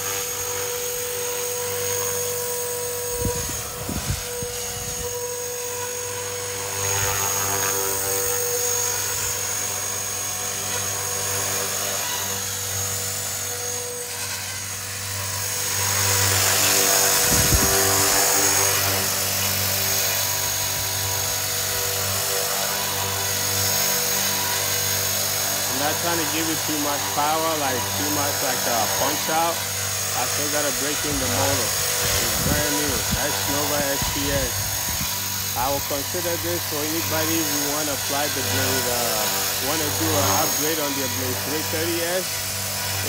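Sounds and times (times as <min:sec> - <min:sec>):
electric motor whine: 0:00.0 - 0:43.0
helicopter rotors rushing: 0:00.0 - 0:43.0.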